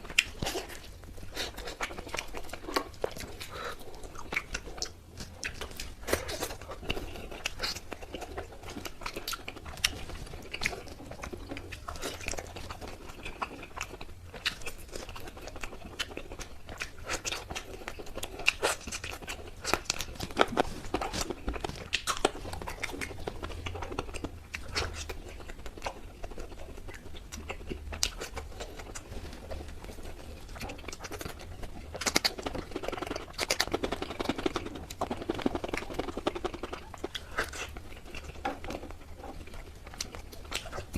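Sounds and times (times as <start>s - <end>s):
person chewing with wet crunches: 0.0s - 40.9s.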